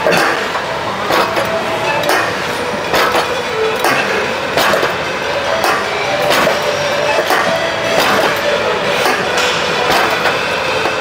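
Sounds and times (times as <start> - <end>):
gym background noise: 0.0 - 11.0
weight stack clinking: 0.0 - 11.0.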